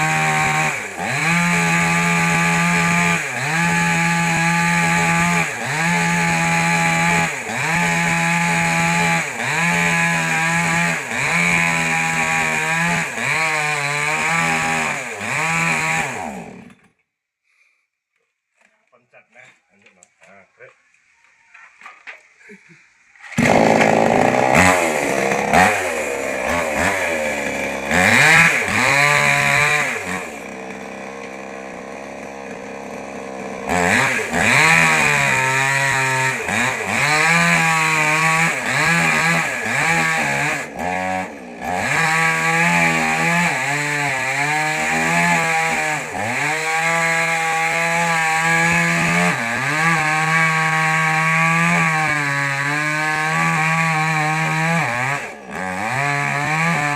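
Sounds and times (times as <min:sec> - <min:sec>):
mini chainsaw revving and cutting: 0:00.0 - 0:16.8, 0:23.4 - 0:56.9.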